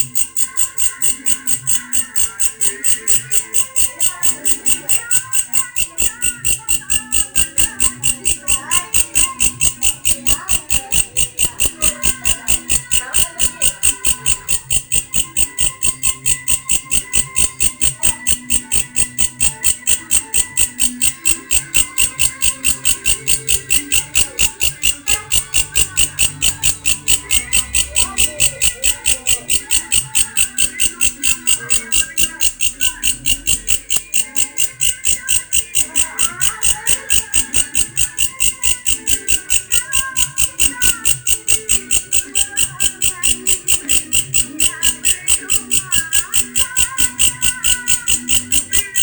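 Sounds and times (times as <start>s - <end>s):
grasshopper rasping call: 0.0s - 49.0s.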